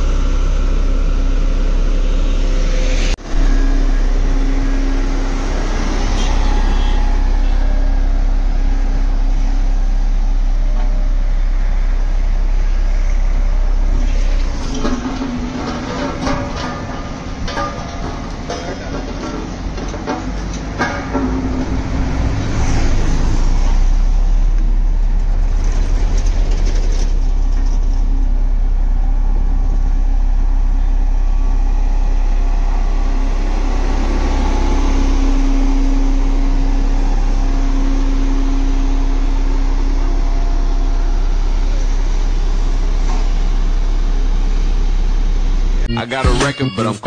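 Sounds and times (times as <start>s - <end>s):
road roller diesel engine droning: 0.0s - 47.0s.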